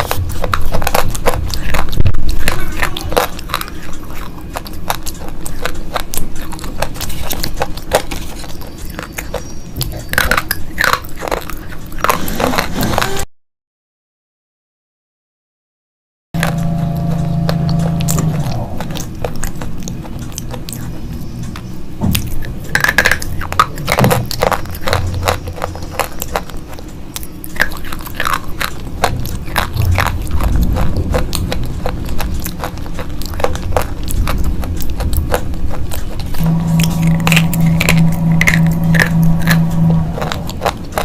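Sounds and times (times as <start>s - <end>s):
crunching and snapping chews: 0.0s - 13.2s, 16.4s - 41.0s.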